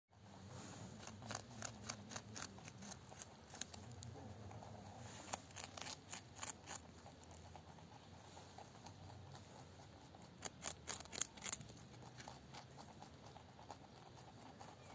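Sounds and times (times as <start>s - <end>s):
rabbits crunching carrot: 0.2s - 14.9s.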